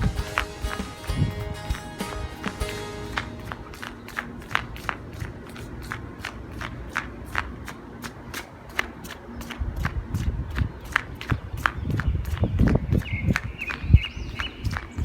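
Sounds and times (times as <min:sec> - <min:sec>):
jogging footsteps: 0:00.0 - 0:15.0.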